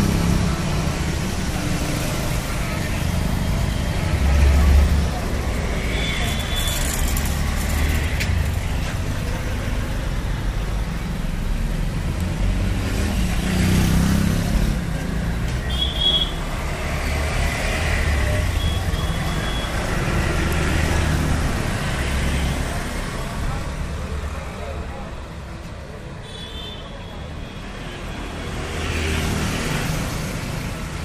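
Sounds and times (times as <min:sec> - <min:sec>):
motorcycle and rickshaw engines rumbling: 0:00.0 - 0:31.0.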